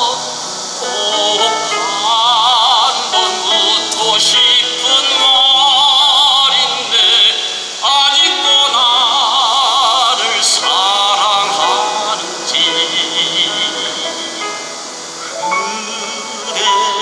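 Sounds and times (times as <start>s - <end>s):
grand piano: 0.0s - 17.0s
man singing classical song: 0.0s - 17.0s.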